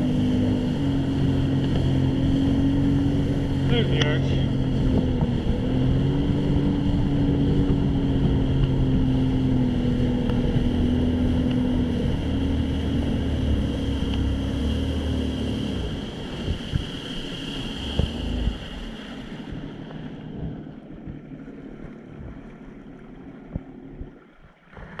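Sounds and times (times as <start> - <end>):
jet ski engine running: 0.0 - 25.0
water noise: 0.0 - 25.0
wind: 0.0 - 25.0.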